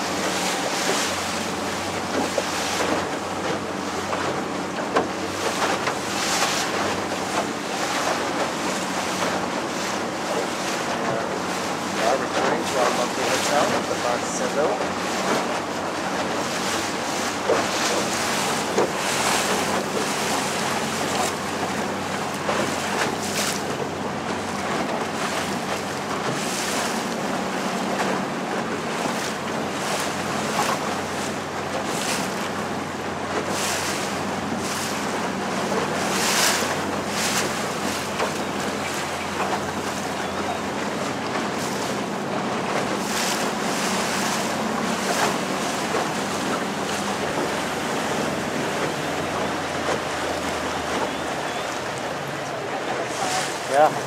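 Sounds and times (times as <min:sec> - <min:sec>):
boat motor humming: 0:00.0 - 0:54.0
water rushing along hull: 0:00.0 - 0:54.0
water splashes: 0:00.0 - 0:54.0.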